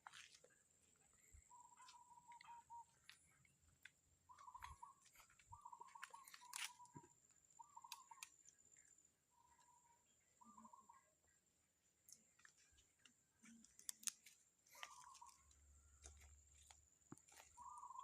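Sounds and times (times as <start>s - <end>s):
faint rattling bird calls: 0.0s - 18.0s.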